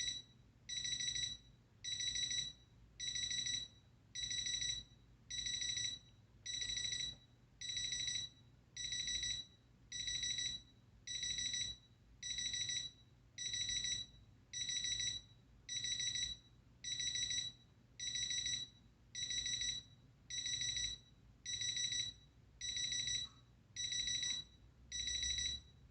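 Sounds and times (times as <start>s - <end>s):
alarm clock beeping: 0.0s - 25.8s.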